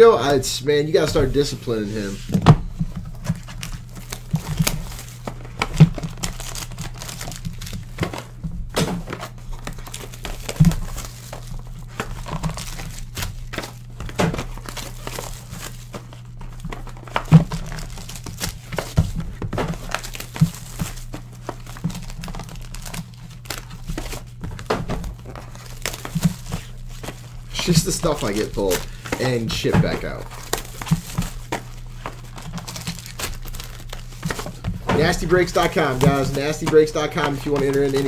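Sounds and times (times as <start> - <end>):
foil crinkling: 1.2 - 38.0.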